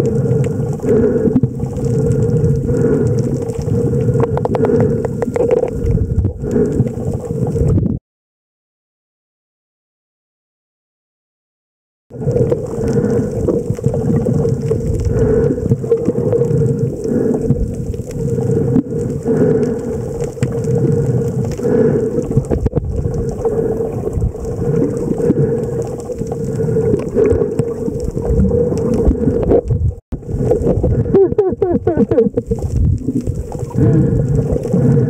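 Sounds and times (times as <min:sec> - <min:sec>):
muffled underwater rumble: 0:00.0 - 0:08.0, 0:12.1 - 0:35.0.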